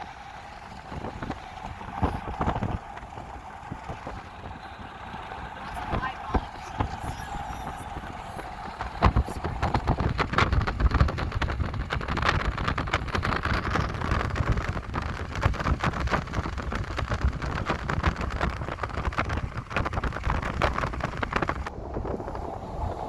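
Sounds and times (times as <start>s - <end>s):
wheels clattering on rails: 0.0s - 22.8s.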